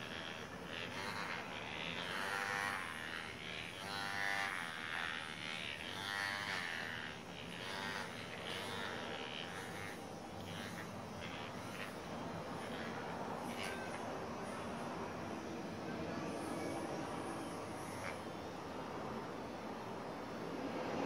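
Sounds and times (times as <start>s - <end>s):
handheld massager buzzing: 0.0s - 20.1s.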